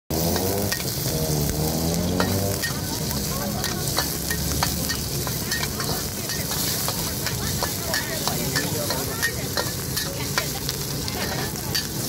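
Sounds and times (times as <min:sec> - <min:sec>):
metal spatula scraping wok: 0:00.1 - 0:12.0
onion sizzling in hot oil: 0:00.1 - 0:12.0.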